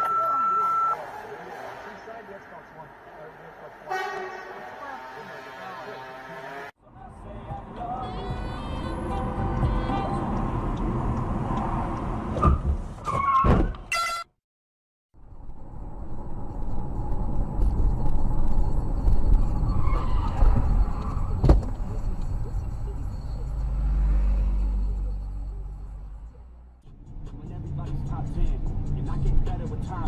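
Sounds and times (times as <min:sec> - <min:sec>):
car engine and tyres rumbling: 0:00.0 - 0:13.9, 0:15.2 - 0:30.0.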